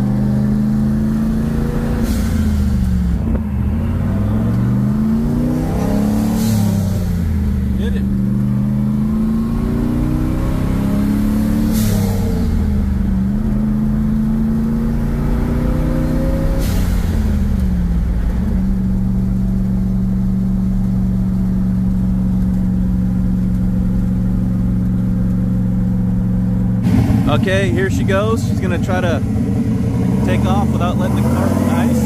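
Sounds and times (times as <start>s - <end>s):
car engine accelerating through gears: 0.0s - 32.0s
gear change rush: 0.0s - 32.0s.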